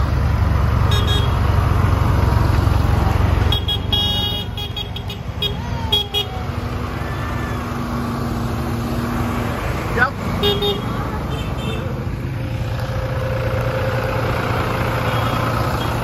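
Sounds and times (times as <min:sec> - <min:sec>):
tractor diesel engines rumbling: 0:00.0 - 0:16.0.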